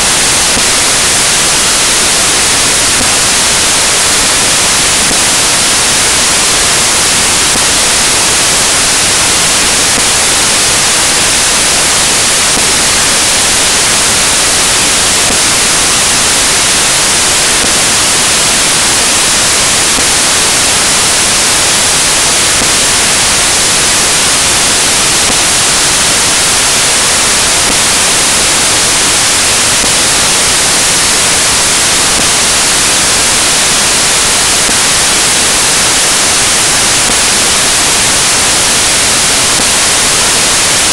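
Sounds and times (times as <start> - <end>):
static hiss: 0.0 - 40.9.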